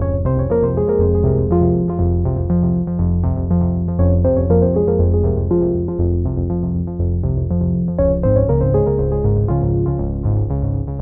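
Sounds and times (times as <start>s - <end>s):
bass notes: 0.0s - 11.0s
synthesizer keyboard notes: 0.0s - 11.0s.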